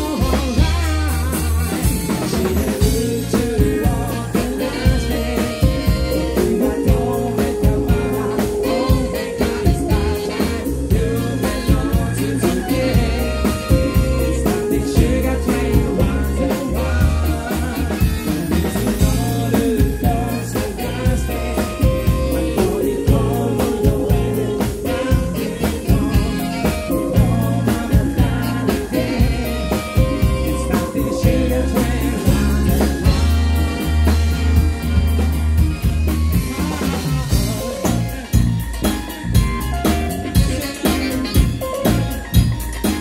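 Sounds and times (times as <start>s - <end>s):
person singing: 0.0s - 35.4s, 36.2s - 39.0s, 39.8s - 42.3s
bass line: 0.0s - 43.0s
drum kit beat: 0.0s - 43.0s
electric guitar: 0.0s - 43.0s
saxophone: 0.0s - 43.0s.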